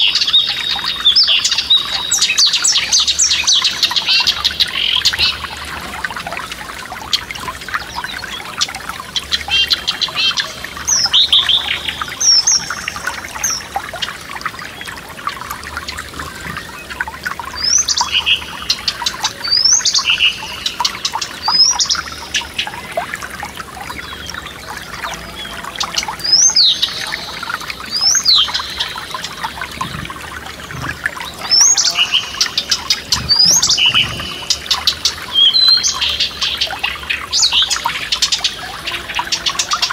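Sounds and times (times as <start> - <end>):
songbirds singing: 0.0 - 39.9
stream babbling over stones: 0.0 - 39.9.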